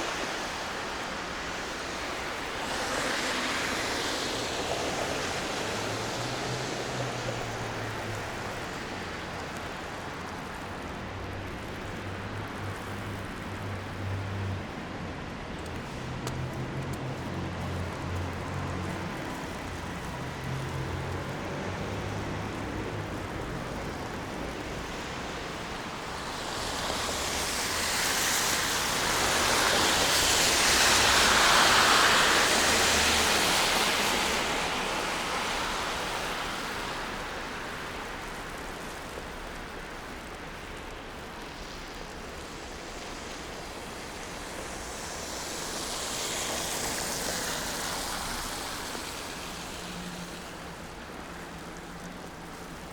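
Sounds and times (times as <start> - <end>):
vehicle tyre hiss on snow: 0.0 - 14.8, 15.6 - 52.9.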